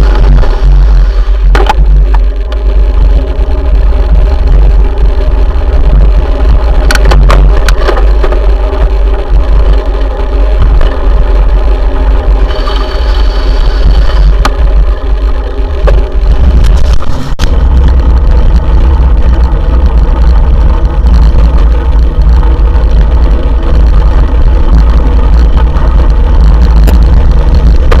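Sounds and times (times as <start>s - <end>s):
road and traffic noise: 0.0s - 28.0s.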